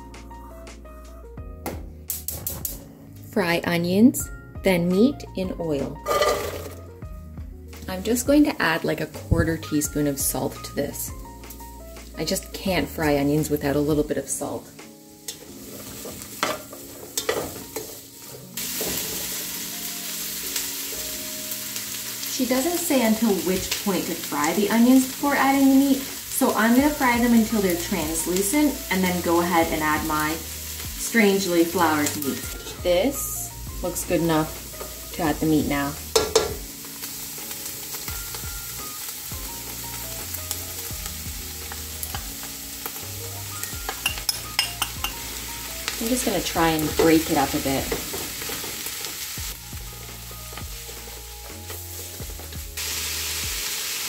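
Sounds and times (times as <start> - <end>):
soft background music: 0.0 - 54.0
onions sizzling in oil: 6.0 - 7.2, 7.8 - 54.0.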